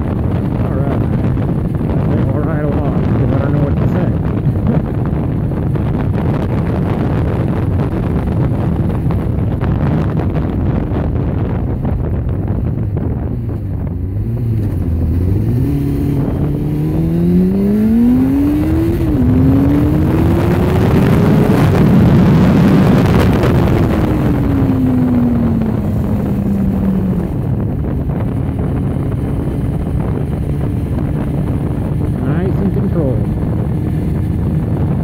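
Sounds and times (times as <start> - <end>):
motorcycle engine accelerating: 0.0 - 35.0
wind rushing over microphone: 0.0 - 35.0.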